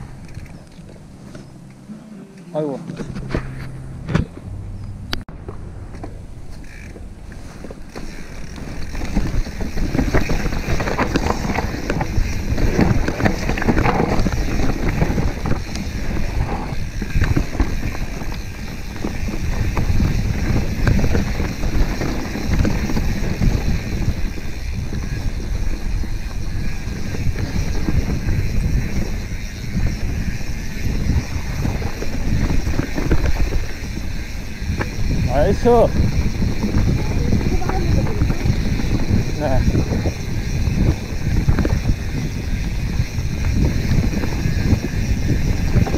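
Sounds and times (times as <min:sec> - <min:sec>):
tyres rumbling on dirt: 0:00.0 - 0:45.9
wind buffeting microphone: 0:02.9 - 0:45.9
bike clattering over bumps: 0:05.4 - 0:45.9.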